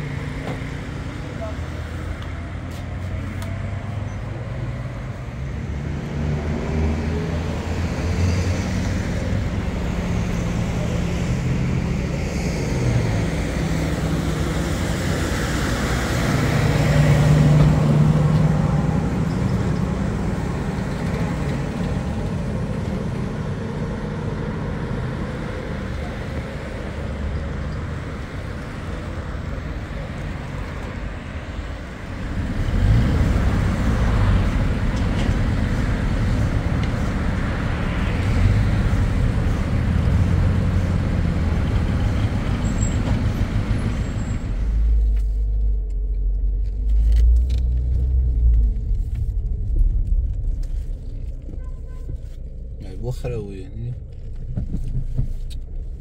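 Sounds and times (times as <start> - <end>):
vehicle engines running: 0.0 - 56.0.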